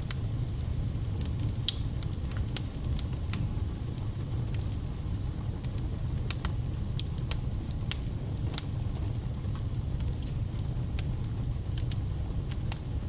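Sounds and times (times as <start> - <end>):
wood fire burning: 0.0 - 13.0.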